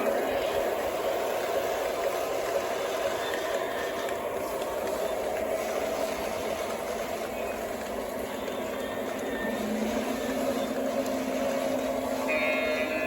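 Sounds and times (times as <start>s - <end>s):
lower motor tone: 0.0s - 13.0s
model train motor and wheels: 0.0s - 13.0s.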